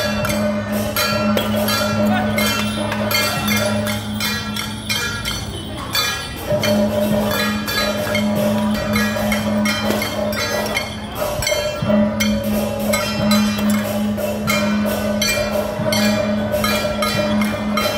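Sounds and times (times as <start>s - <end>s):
rapid percussion strikes: 0.0s - 17.9s.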